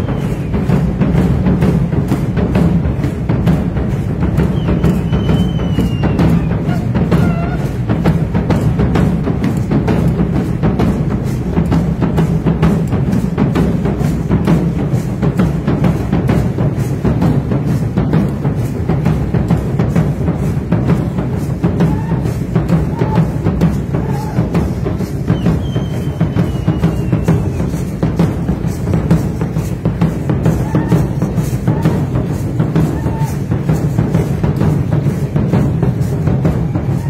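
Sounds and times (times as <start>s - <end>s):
deep drums in driving rhythm: 0.0s - 37.0s.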